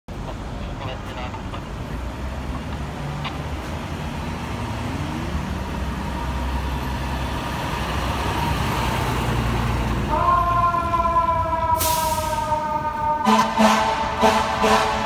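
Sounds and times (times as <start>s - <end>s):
fire engine diesel engine driving past: 0.2s - 15.0s.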